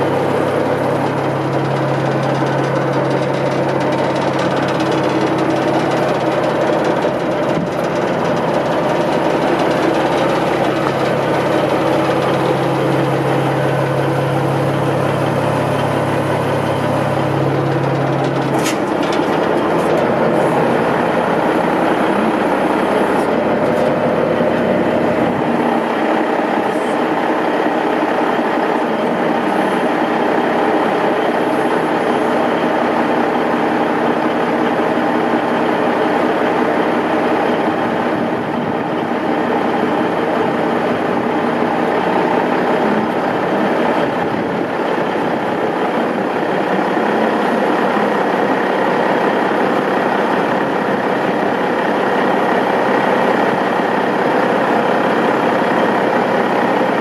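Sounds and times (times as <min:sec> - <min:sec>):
truck diesel engine idling: 0:00.0 - 0:57.0.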